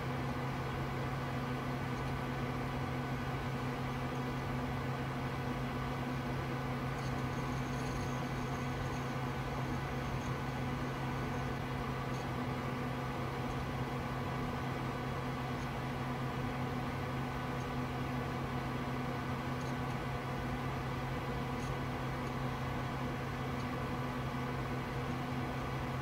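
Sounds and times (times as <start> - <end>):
desktop computer fans humming: 0.0 - 26.0.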